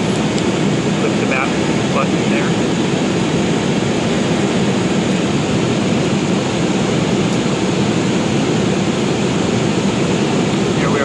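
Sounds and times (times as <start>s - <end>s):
airplane cabin engine hum: 0.0s - 11.0s.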